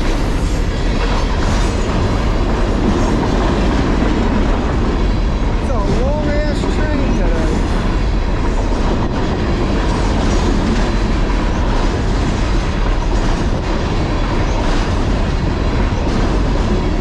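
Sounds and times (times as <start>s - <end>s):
freight train wheels rattling on rails: 0.0s - 17.0s.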